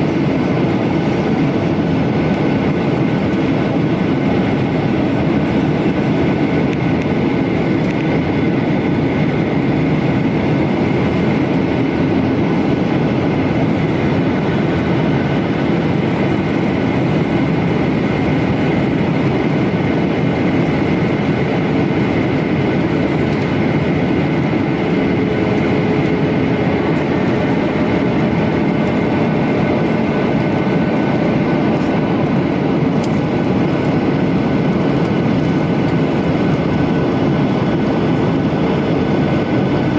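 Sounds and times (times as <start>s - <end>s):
airplane cabin engine rush: 0.0s - 39.9s
faint steady whines: 0.0s - 39.9s.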